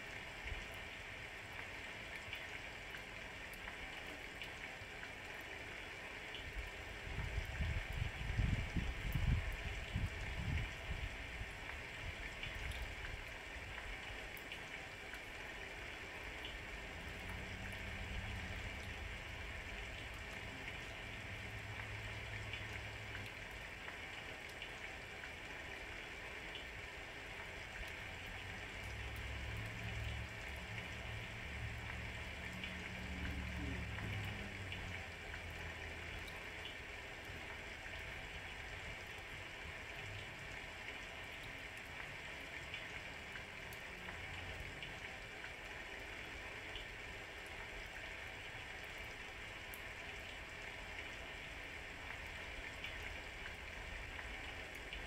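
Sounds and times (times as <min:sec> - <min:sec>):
steady rain hiss: 0:00.0 - 0:55.0
faint drips ticking: 0:00.4 - 0:55.0.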